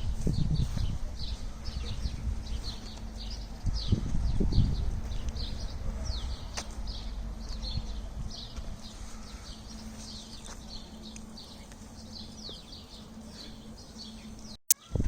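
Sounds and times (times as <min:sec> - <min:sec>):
loud rumbling noise: 0:00.0 - 0:13.2
small birds chirping: 0:00.0 - 0:15.0.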